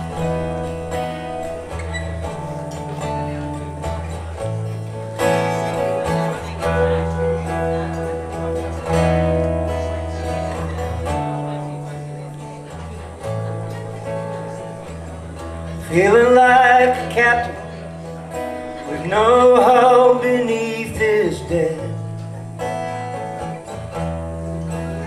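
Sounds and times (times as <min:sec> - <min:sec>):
bass notes: 0:00.0 - 0:20.3
acoustic and electric guitars strumming: 0:00.0 - 0:25.0.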